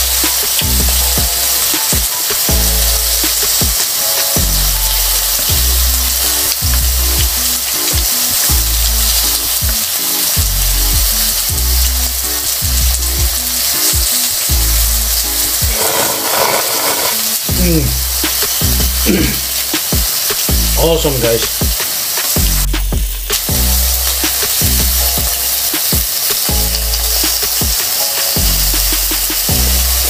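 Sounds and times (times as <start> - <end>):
background music with bass: 0.0 - 30.0
food sizzling in a pan: 0.0 - 30.0.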